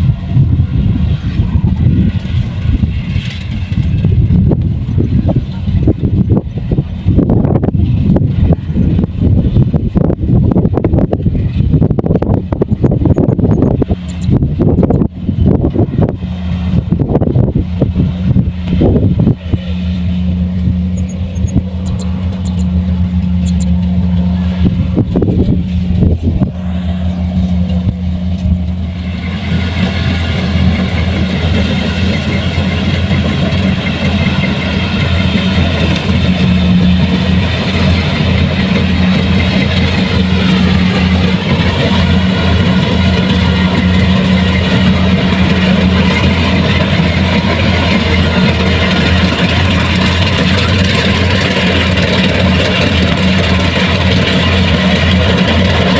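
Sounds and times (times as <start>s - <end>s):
diesel engine running: 0.0s - 55.9s
high mechanical whirring: 0.0s - 55.9s.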